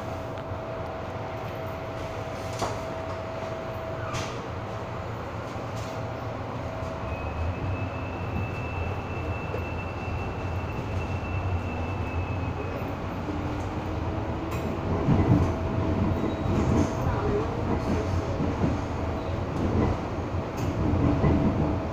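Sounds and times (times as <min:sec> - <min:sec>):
train car hum: 0:00.0 - 0:21.9.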